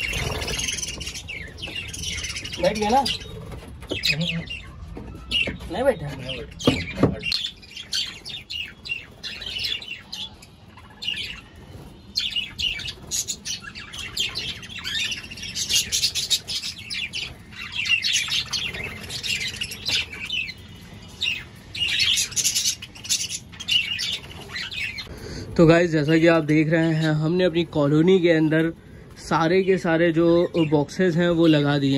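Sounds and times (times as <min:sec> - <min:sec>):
budgerigars chirping: 0:00.0 - 0:31.9.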